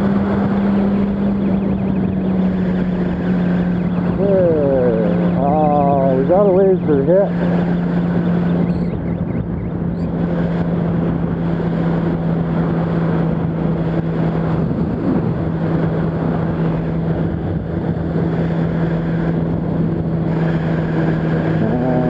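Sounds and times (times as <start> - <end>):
motorcycle engine cruising: 0.0 - 22.0
wind rush: 0.0 - 22.0.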